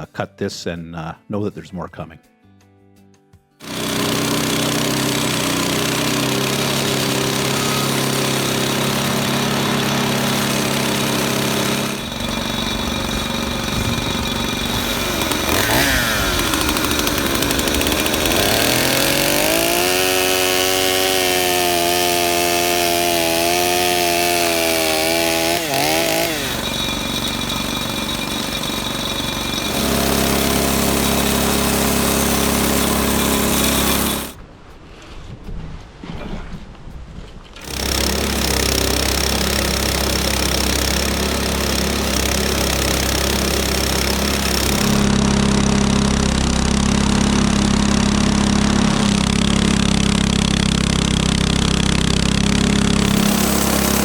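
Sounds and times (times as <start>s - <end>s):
sawmill engine sawing log: 3.6s - 34.4s, 37.6s - 54.0s.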